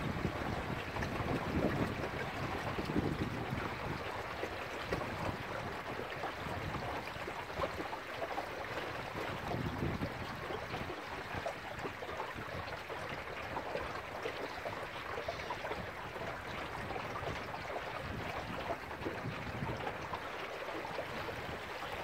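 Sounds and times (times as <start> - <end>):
water splashing along boat bow: 0.0 - 22.0
wind rumbling on microphone: 0.0 - 22.0.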